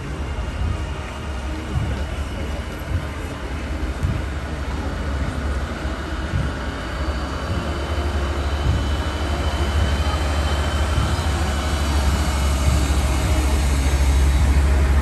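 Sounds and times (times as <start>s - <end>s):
fire engines rumbling past: 0.0s - 15.0s.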